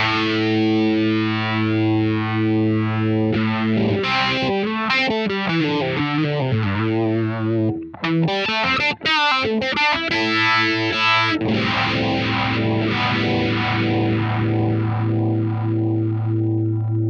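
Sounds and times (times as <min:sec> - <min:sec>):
distorted electric guitar with phaser: 0:00.0 - 0:17.0.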